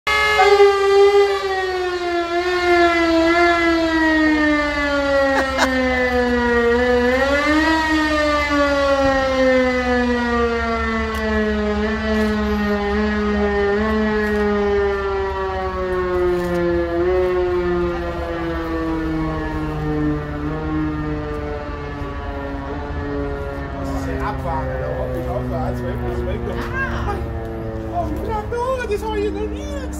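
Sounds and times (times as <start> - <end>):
siren wailing: 0.1 - 29.9
tractor engines rumbling: 0.1 - 29.9.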